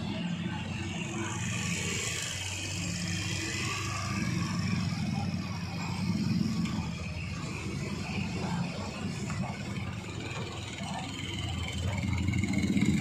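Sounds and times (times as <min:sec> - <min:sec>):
truck diesel engine labouring: 0:00.0 - 0:13.0.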